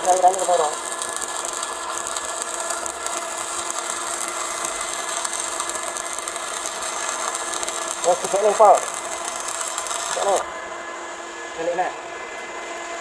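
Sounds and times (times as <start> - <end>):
welding arc crackling and sizzling: 0.0 - 10.6.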